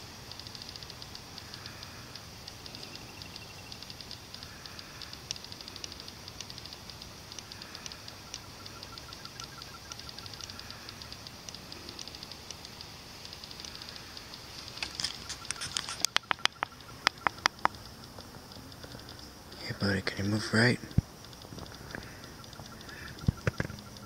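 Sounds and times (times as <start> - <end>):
insect trill: 0.0 - 24.0
insects ticking: 0.0 - 24.0.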